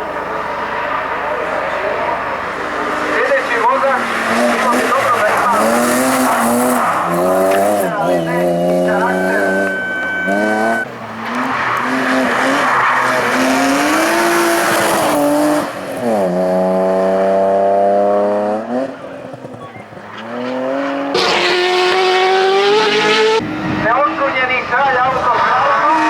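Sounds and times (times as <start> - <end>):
racing car engine at full throttle: 0.0 - 26.0.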